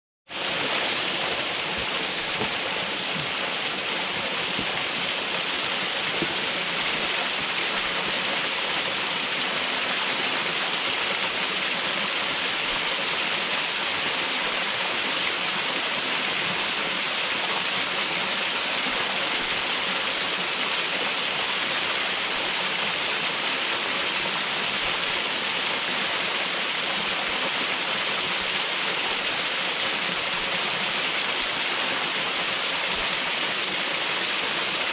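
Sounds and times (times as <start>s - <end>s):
waterfall rushing: 0.3s - 34.9s.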